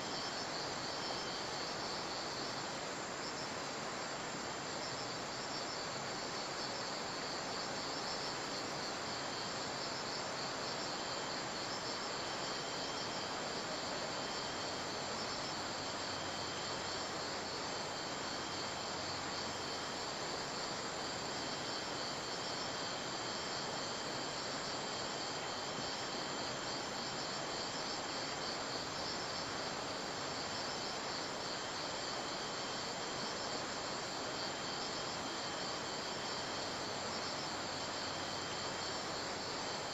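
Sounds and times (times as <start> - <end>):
constant hiss: 0.0 - 39.9
crickets chirping: 0.0 - 39.9.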